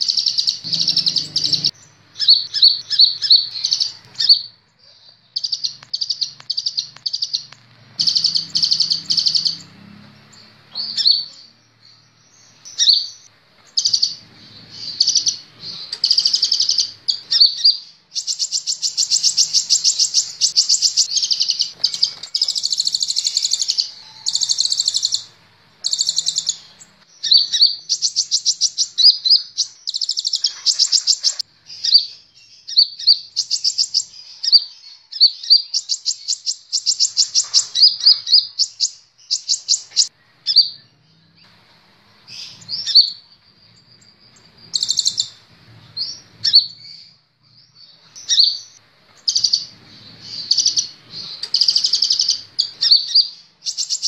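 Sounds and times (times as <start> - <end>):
sunbird singing high trills: 0.0 - 41.5, 42.1 - 54.0.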